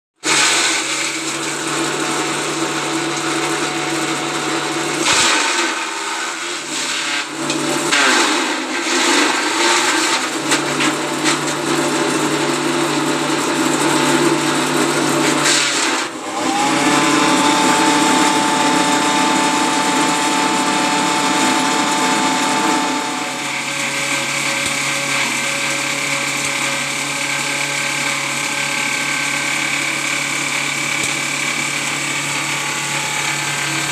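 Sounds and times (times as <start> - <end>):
chopper grinder machine running: 0.2 - 33.9.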